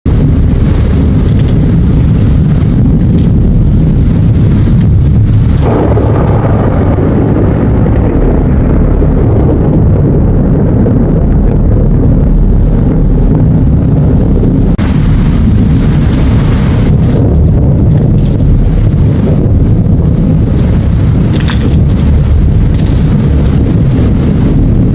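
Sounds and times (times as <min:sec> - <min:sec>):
wind buffeting microphone: 0:00.0 - 0:24.9
heavy rain: 0:00.1 - 0:24.9.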